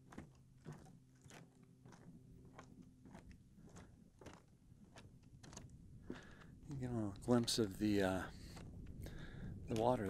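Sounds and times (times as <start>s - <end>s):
footsteps on wooden boardwalk: 0.0s - 10.0s.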